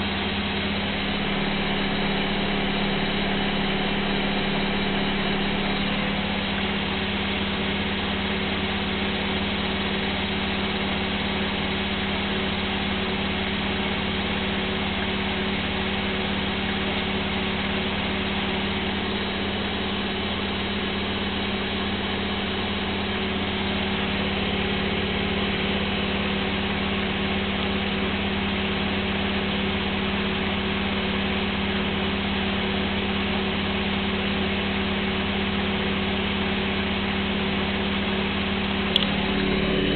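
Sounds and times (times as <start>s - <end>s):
motor hum and whine: 0.0s - 39.9s.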